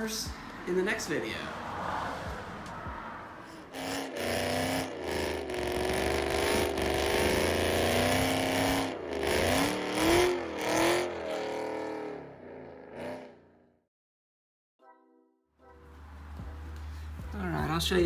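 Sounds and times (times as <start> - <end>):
car engine revving: 0.0 - 13.5, 15.8 - 17.8.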